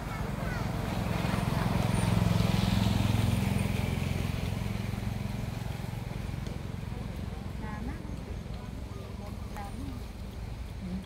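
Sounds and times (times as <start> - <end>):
vehicle engine passing by: 0.0 - 10.2.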